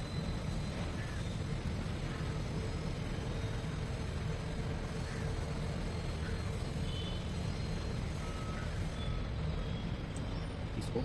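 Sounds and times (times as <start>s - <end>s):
faint hum: 0.0s - 11.0s
road traffic rumble: 0.0s - 11.0s.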